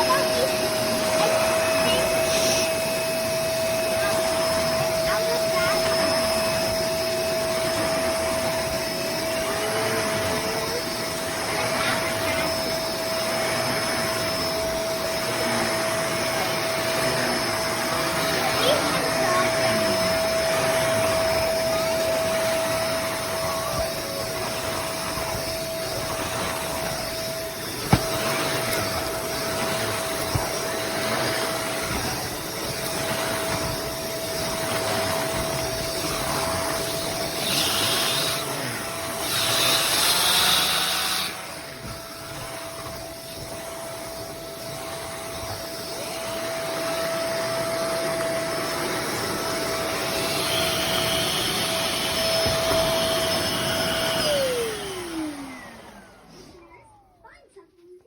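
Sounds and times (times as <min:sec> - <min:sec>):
vacuum cleaner whine: 0:00.0 - 0:57.4.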